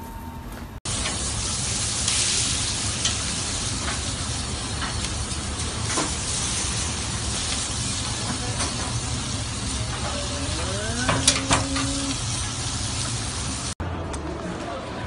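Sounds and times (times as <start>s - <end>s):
burgers sizzling on a grill: 0.9s - 13.8s.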